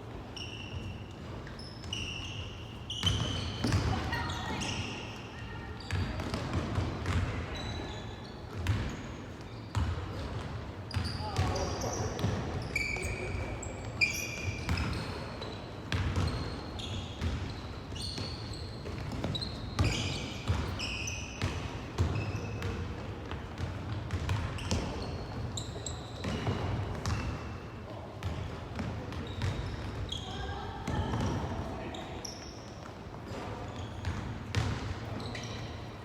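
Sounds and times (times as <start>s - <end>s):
shoes squeaking on court floor: 0.1s - 36.0s.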